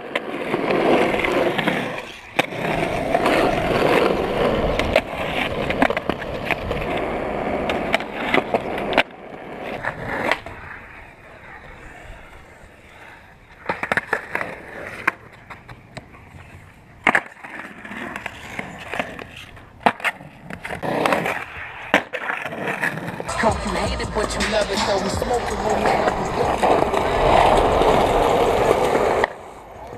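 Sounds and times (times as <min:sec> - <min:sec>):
skateboard clacking: 0:00.0 - 0:29.9
skateboard wheels rolling on concrete: 0:00.0 - 0:29.9.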